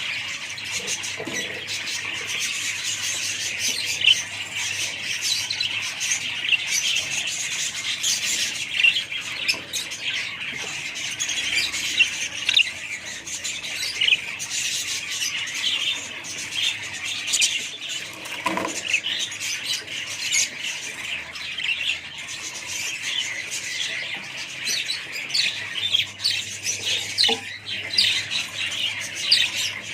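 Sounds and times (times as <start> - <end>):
parrots chattering and squawking: 0.0 - 29.9.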